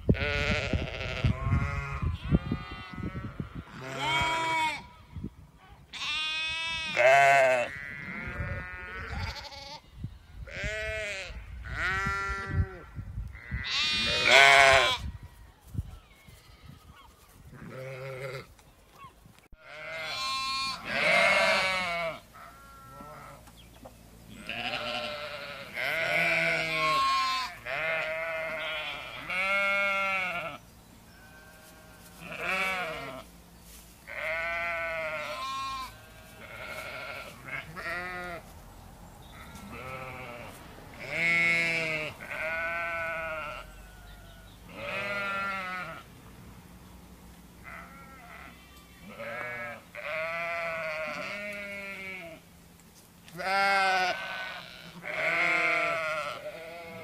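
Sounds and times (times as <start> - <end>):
sheep and lambs bleating: 0.0 - 5.3, 5.9 - 15.1, 16.1 - 18.5, 19.6 - 23.5, 24.3 - 33.4, 34.0 - 38.5, 39.2 - 46.1, 47.6 - 52.5, 53.3 - 57.0.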